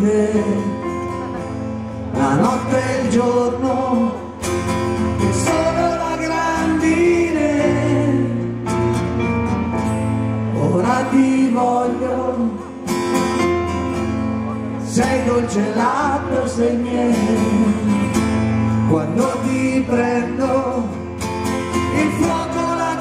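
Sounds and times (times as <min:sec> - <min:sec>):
man singing: 0:00.0 - 0:01.3, 0:02.0 - 0:08.7, 0:10.5 - 0:13.1, 0:14.8 - 0:23.0
keyboard accompaniment: 0:00.0 - 0:23.0
strummed acoustic guitar: 0:00.0 - 0:23.0.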